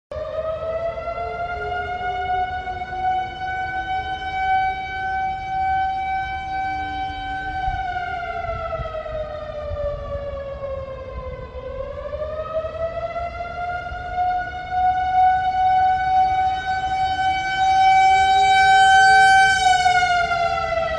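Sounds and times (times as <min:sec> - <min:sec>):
fainter second siren tone: 0:00.1 - 0:20.9
warning siren wailing: 0:00.1 - 0:20.9.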